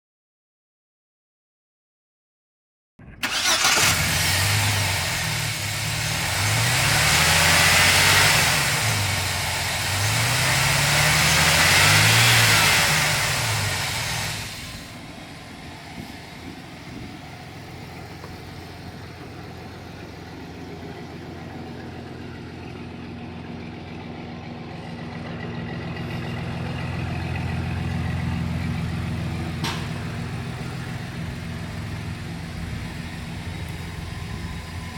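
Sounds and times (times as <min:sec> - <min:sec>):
engine revving and idling: 0:03.1 - 0:34.9.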